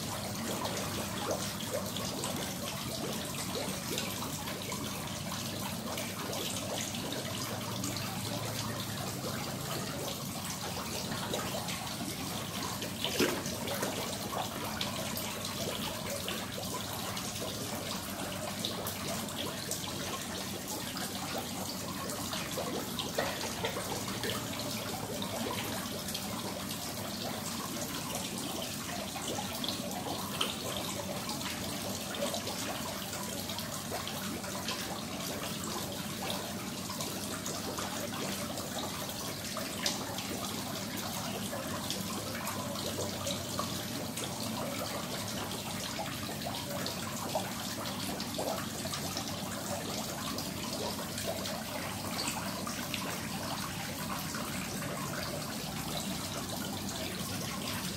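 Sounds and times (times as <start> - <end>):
waterfall splashing into pond: 0.0 - 57.9.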